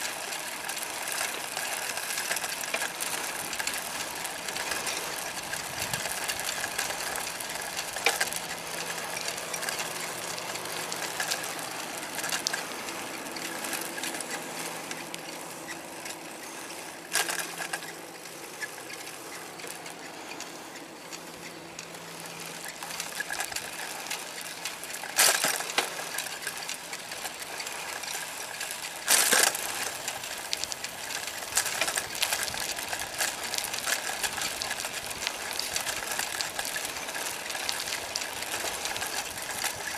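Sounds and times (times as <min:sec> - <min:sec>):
bicycle rattling on asphalt: 0:00.0 - 0:39.9.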